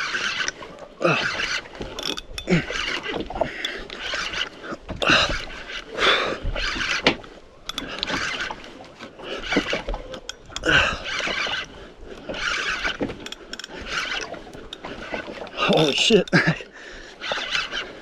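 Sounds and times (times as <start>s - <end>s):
water slapping against boat hull: 2.6s - 18.0s.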